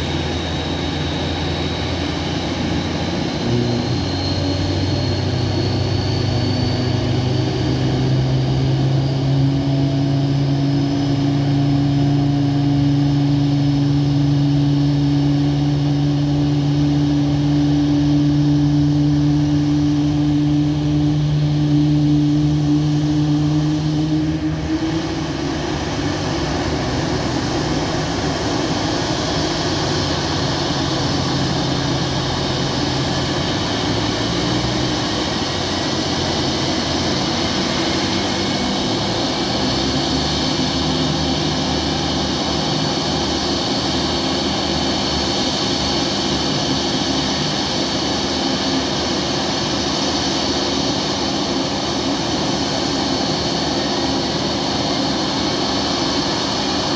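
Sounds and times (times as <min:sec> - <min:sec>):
jet engines idling with whine: 0:00.0 - 0:56.9
tow tractor engine drone: 0:00.0 - 0:56.9.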